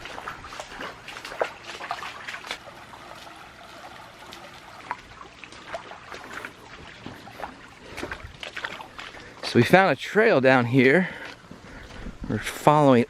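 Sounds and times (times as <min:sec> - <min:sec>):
creek water trickling over rock: 0:00.0 - 0:13.0.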